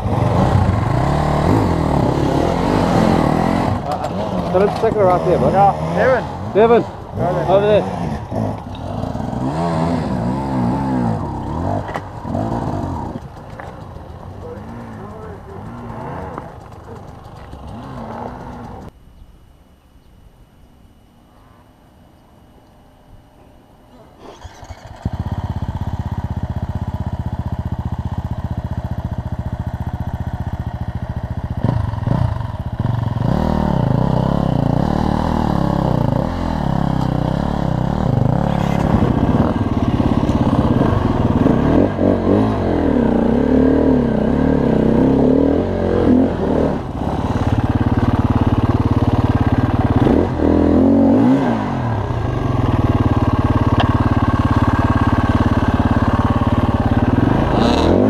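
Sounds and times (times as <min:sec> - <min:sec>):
dirt bike engine revving: 0:00.0 - 0:18.9, 0:24.2 - 0:58.0.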